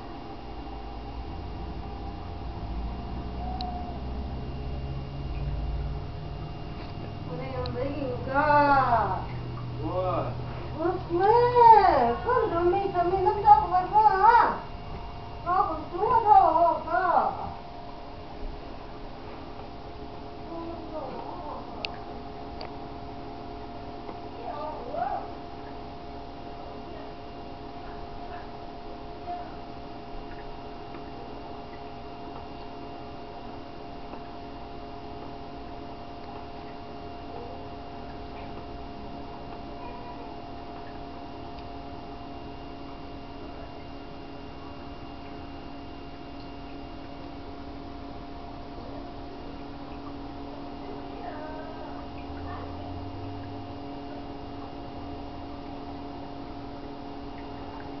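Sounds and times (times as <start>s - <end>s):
aquarium equipment humming: 0.0s - 58.0s.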